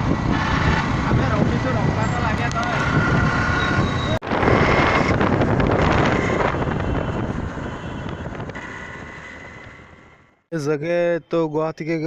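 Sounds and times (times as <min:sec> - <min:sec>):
wind buffeting microphone: 0:00.0 - 0:09.7
vehicle road noise: 0:00.0 - 0:10.5.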